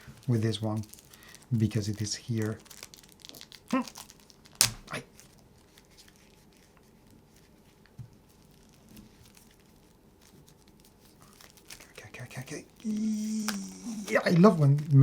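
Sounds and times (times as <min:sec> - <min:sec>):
plastic crinkling and handling: 0:00.0 - 0:15.0
plastic wrap tearing: 0:00.0 - 0:15.0.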